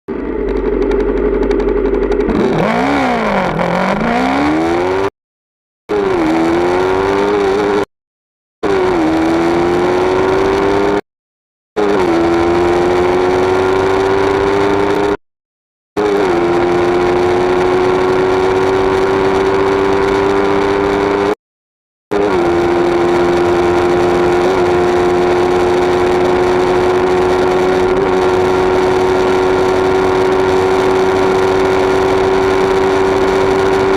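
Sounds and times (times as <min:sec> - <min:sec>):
motorcycle engine revving: 0:00.1 - 0:05.1, 0:05.9 - 0:07.9, 0:08.6 - 0:11.0, 0:11.8 - 0:15.2, 0:16.0 - 0:21.4, 0:22.1 - 0:33.9.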